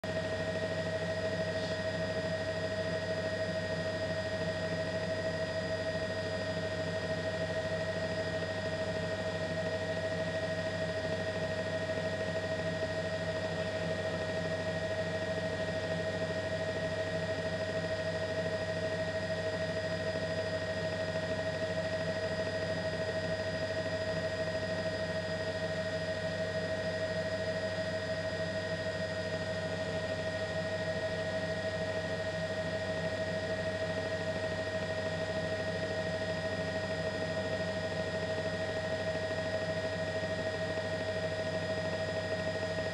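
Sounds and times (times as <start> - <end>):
helicopter engine and rotors: 0.0 - 42.9.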